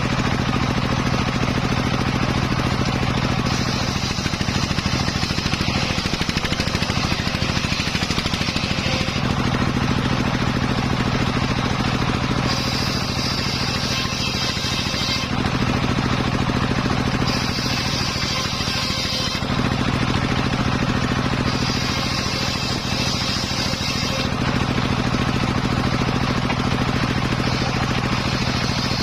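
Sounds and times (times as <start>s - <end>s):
circular saw engine running: 0.0s - 29.0s
saw blade cutting wood: 0.0s - 29.0s.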